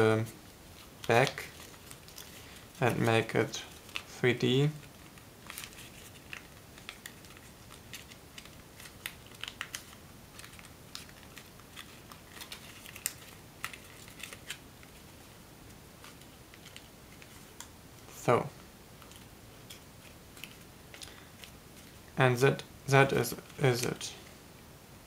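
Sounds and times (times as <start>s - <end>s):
paper crinkling and crackling: 0.7s - 15.4s, 16.0s - 17.7s, 19.0s - 24.3s.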